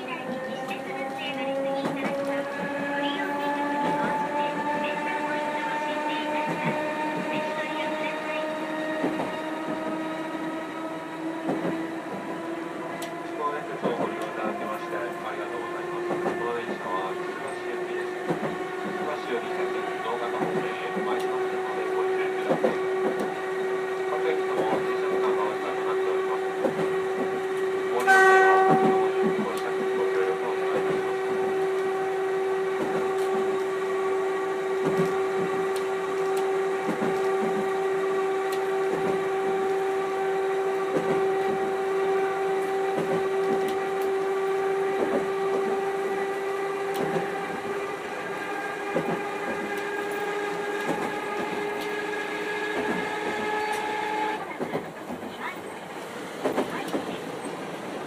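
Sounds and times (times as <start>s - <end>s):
tram motor whine: 0.0s - 58.0s
wheels rumbling and clicking on rail: 0.0s - 58.0s
loud tonal horn blast: 0.6s - 54.4s.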